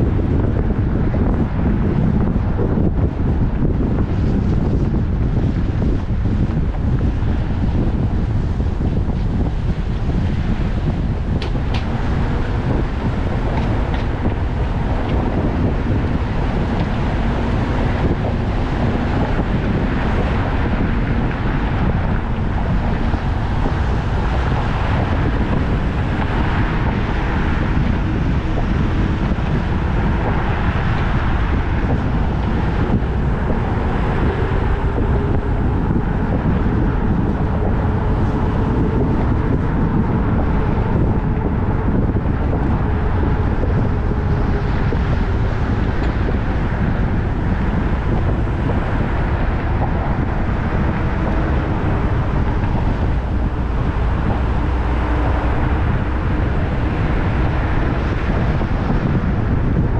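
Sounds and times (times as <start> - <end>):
car road and wind noise: 0.0 - 59.9
faint engine hum: 0.0 - 59.9.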